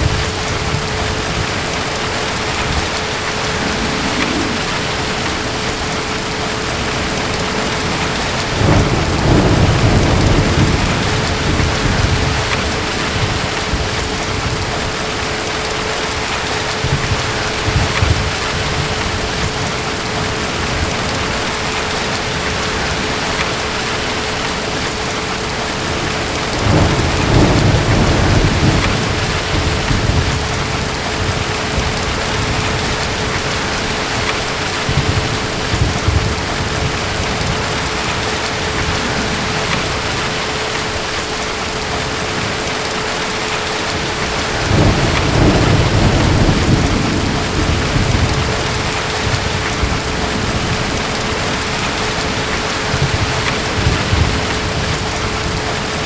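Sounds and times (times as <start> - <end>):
distant thunder rumbling: 0.0 - 56.0
heavy rain: 0.0 - 56.0.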